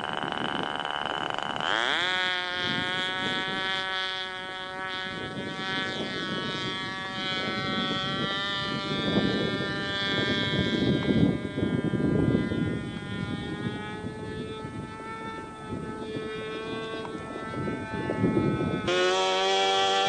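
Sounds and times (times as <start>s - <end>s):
model airplane engine buzzing: 0.0s - 20.0s.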